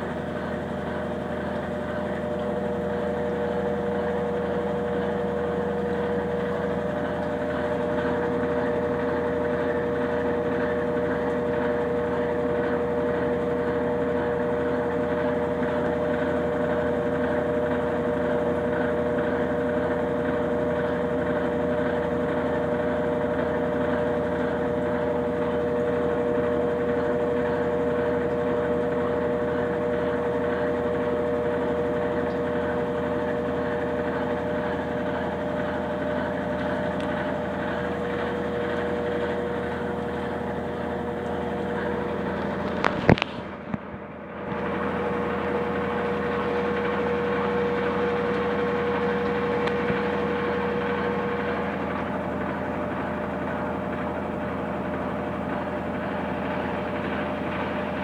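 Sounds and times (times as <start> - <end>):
two-note motor whine: 0.0 - 58.0
washing machine spinning: 0.0 - 58.0.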